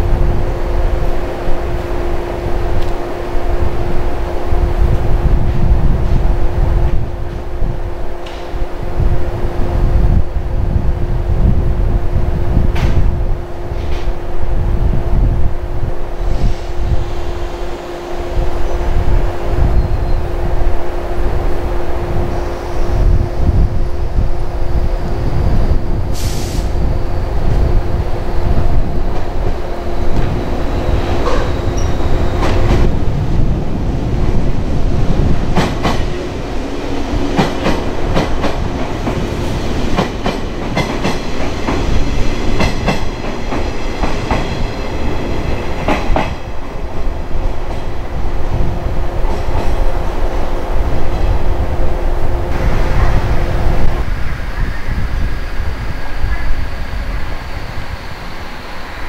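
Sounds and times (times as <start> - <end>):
electric train rumbling past: 0.0 - 59.0.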